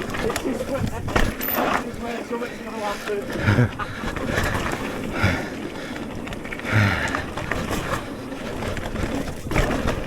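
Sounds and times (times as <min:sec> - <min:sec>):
bike rattling: 0:00.0 - 0:10.0
wind and tyre noise: 0:00.0 - 0:10.0.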